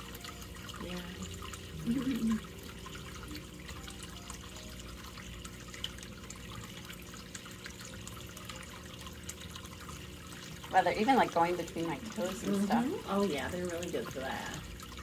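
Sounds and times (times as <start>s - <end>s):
low steady hum: 0.0s - 15.0s
water trickling: 0.0s - 15.0s.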